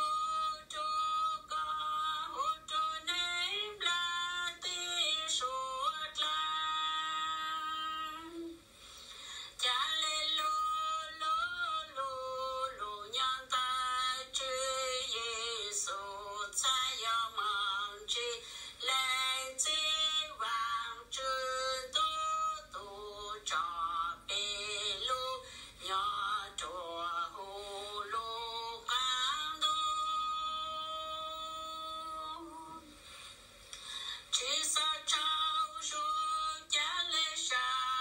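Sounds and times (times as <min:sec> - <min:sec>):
woman singing with vibrato: 0:00.0 - 0:08.8, 0:09.5 - 0:33.0, 0:34.2 - 0:38.0.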